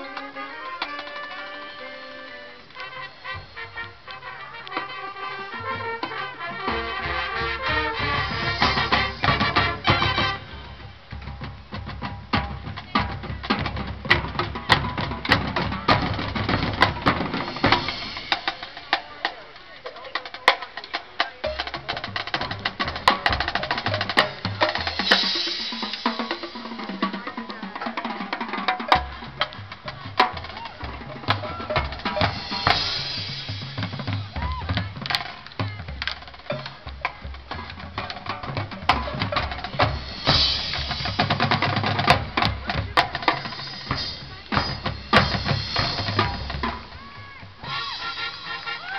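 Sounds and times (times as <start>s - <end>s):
marching band percussion: 0.0s - 48.9s
bass drum notes: 2.6s - 20.7s, 21.4s - 48.0s.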